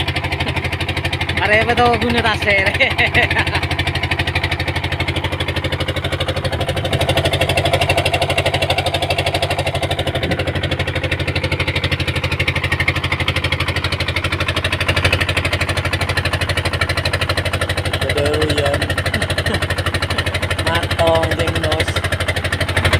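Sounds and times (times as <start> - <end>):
engine running steadily: 0.0 - 22.9.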